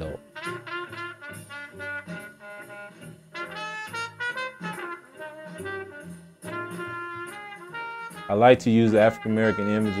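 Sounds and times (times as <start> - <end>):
jazzy brass horn music: 0.0 - 10.0.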